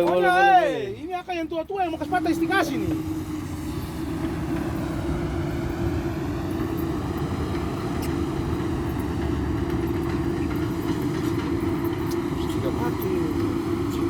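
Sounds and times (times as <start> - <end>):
steady engine whine: 0.0 - 14.0
truck diesel engine running: 0.0 - 14.0.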